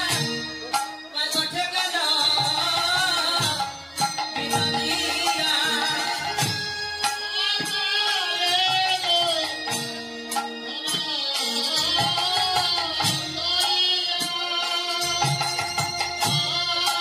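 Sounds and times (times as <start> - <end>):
devotional music with wavering melody: 0.0 - 17.0
percussion strikes: 0.0 - 17.0.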